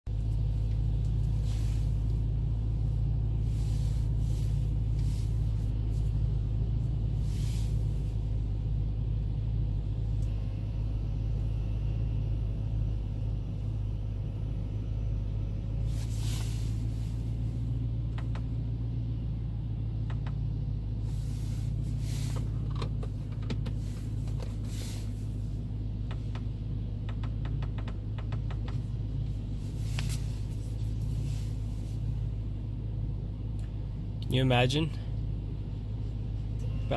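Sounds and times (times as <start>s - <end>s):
car engine low rumble: 0.0s - 36.9s.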